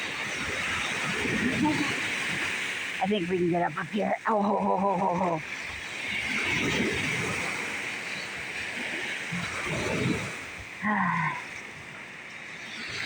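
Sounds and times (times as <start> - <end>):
strong wind: 0.0 - 13.0
surf breaking on beach: 0.0 - 13.0.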